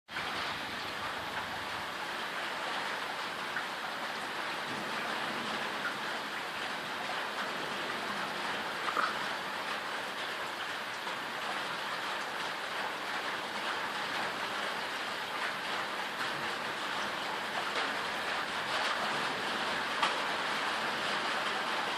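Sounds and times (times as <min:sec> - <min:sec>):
raindrop impacts ticking: 0:00.1 - 0:21.9
steady rain falling: 0:00.1 - 0:21.9.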